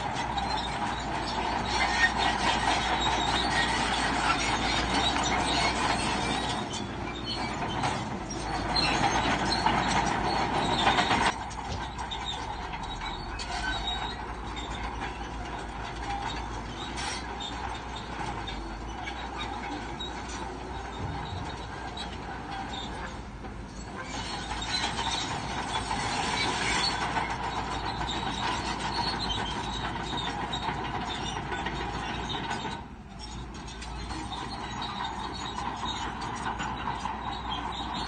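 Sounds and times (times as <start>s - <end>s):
bulldozer engine running: 0.0s - 38.0s
steel tracks clanking and squealing: 0.0s - 38.0s.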